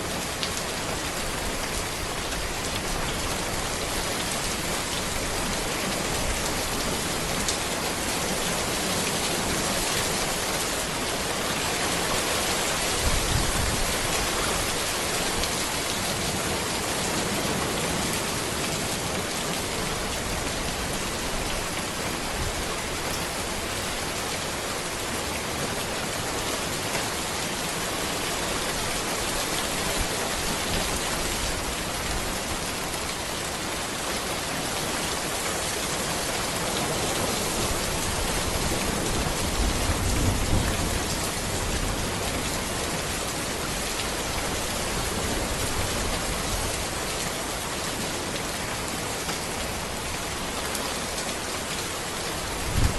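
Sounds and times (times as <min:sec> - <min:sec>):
rain falling on road and trees: 0:00.0 - 0:52.9.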